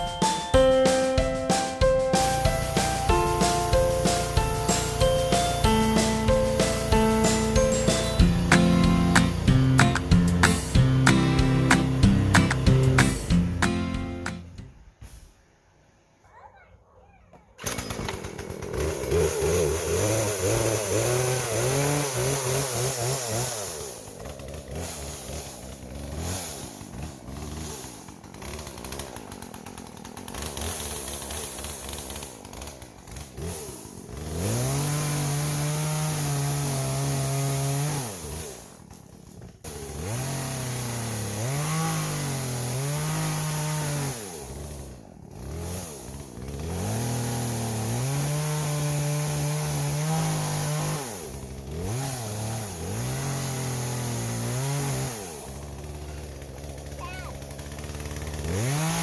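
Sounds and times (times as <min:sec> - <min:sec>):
chainsaw revving and idling: 0:01.5 - 0:14.6, 0:17.6 - 0:59.0.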